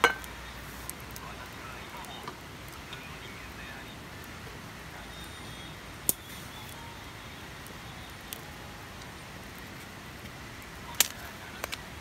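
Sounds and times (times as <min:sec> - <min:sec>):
campfire hissing: 0:00.0 - 0:12.0
campfire popping: 0:00.0 - 0:12.0.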